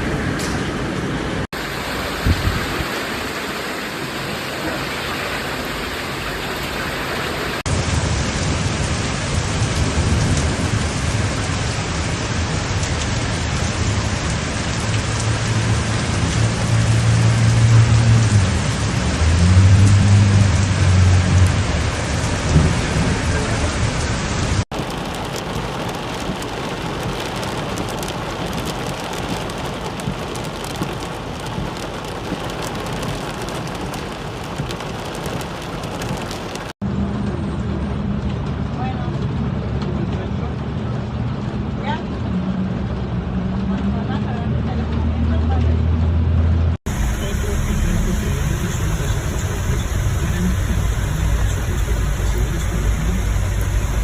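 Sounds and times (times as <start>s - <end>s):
heavy rain pouring: 0.0s - 45.7s, 46.7s - 54.0s.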